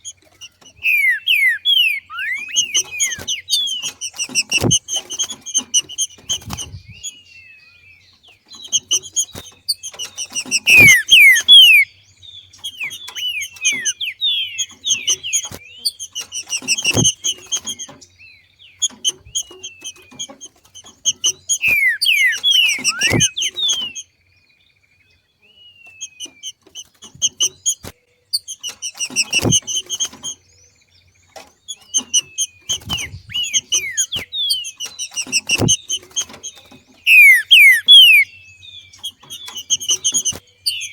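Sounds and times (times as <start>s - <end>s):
bird chirps and whistles: 0.0s - 7.3s, 8.5s - 18.0s, 18.8s - 24.1s, 25.6s - 30.4s, 31.7s - 40.9s.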